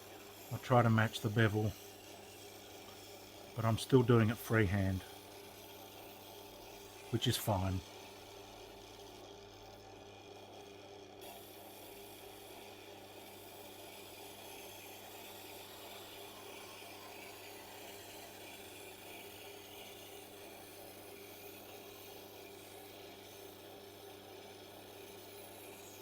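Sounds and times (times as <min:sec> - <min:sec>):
sharpening machine humming: 0:00.0 - 0:10.6, 0:11.2 - 0:26.0.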